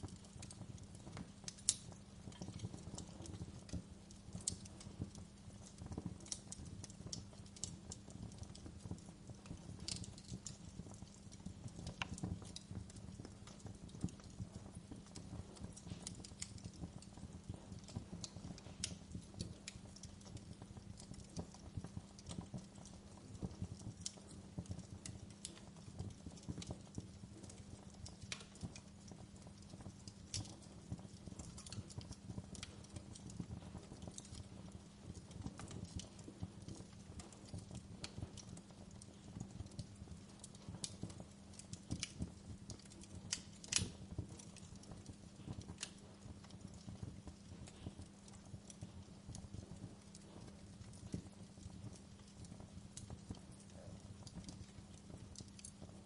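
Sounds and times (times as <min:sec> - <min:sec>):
fire pops and snaps: 0:00.0 - 0:56.0
wood fire crackling: 0:00.0 - 0:56.0.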